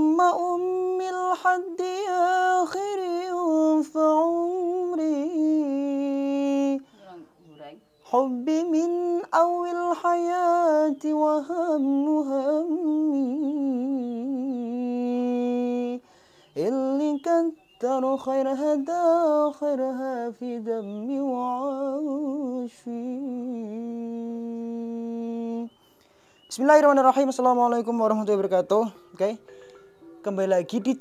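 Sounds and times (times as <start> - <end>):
man singing unaccompanied: 0.0 - 7.0, 8.0 - 31.0.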